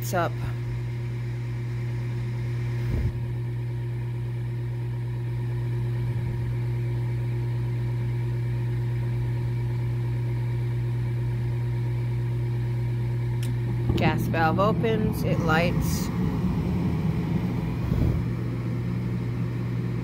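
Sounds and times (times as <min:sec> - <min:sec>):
furnace motor humming: 0:00.0 - 0:20.0.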